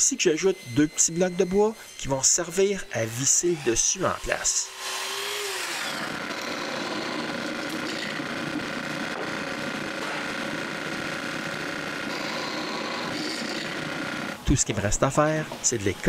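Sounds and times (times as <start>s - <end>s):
power tool whirring: 0.0s - 14.5s.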